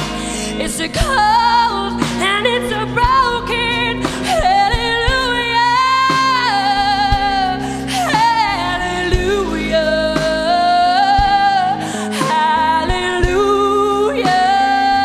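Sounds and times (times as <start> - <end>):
live band with bass and drums: 0.0 - 15.0
woman singing with vibrato: 0.0 - 15.0.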